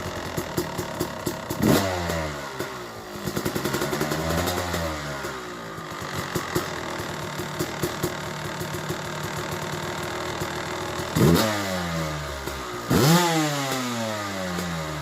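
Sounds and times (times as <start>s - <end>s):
two-stroke engine idling and revving: 0.0s - 15.0s.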